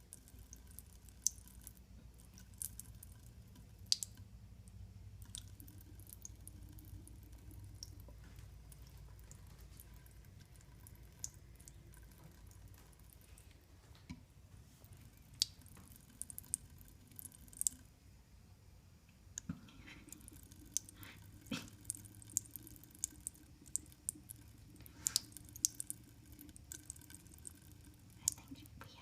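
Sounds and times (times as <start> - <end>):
cat drinking water: 0.0 - 13.6, 14.6 - 17.9, 19.4 - 29.0
low steady hum: 0.0 - 29.0.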